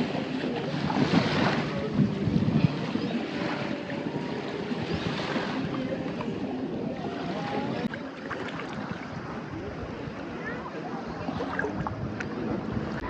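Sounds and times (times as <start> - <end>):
small waves: 0.0 - 13.0
wind buffeting microphone: 0.0 - 13.0.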